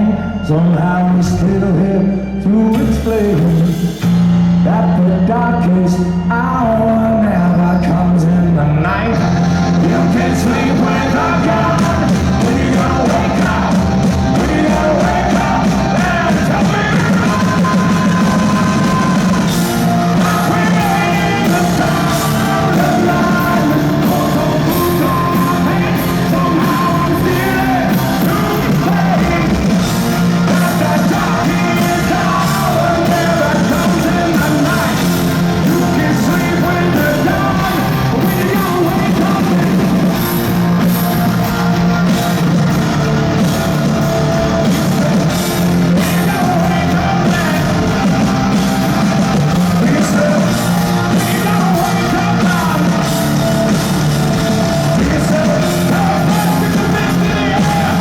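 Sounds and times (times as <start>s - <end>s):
hard rock band playing live: 0.0s - 58.0s
person singing: 0.0s - 58.0s.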